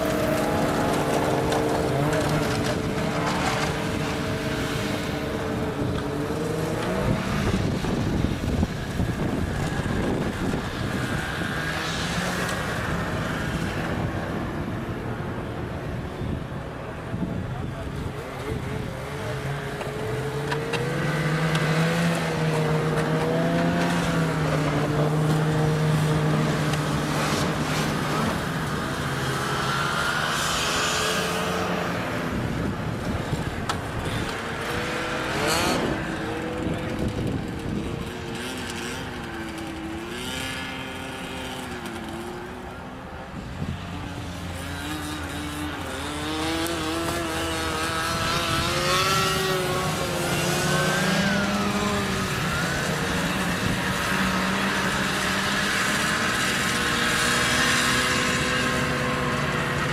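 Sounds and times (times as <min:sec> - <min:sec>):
snowmobiles passing: 0:00.0 - 0:59.9.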